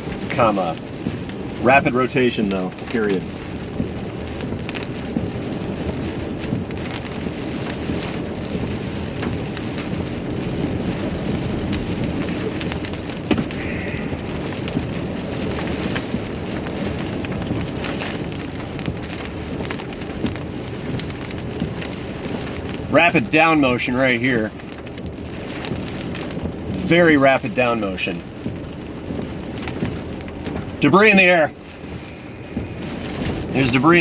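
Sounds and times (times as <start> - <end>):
rain on a car roof: 0.0 - 34.0.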